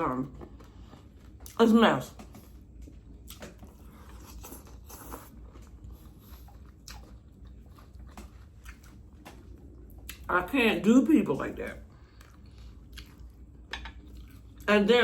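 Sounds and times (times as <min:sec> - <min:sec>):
person chewing food: 0:00.2 - 0:10.3, 0:11.8 - 0:14.7.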